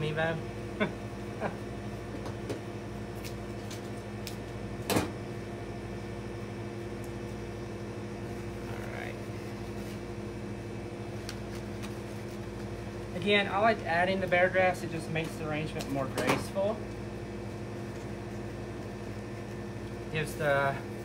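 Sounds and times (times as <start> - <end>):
refrigeration hum: 0.0 - 21.0.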